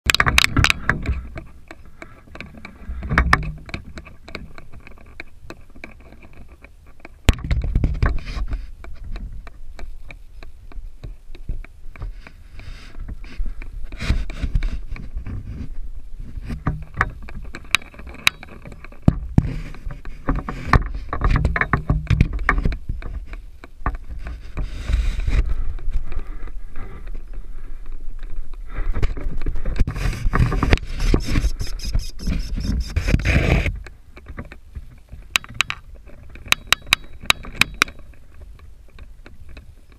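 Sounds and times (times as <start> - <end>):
wind rumbling on microphone: 0.1 - 39.9.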